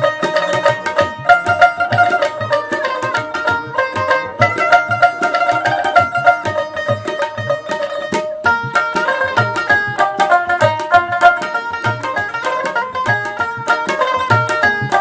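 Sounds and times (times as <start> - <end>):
hand-drum beat: 0.0 - 15.0
plucked-string melody: 0.0 - 15.0.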